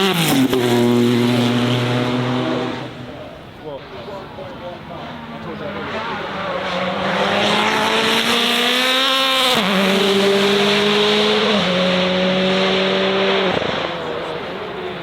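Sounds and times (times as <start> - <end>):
car engine revving and shifting: 0.0 - 3.4, 4.1 - 15.0.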